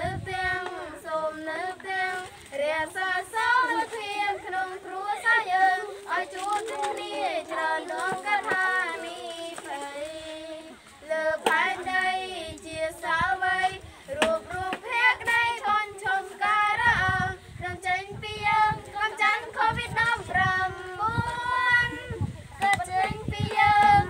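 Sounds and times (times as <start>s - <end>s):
children singing unaccompanied: 0.0s - 24.0s.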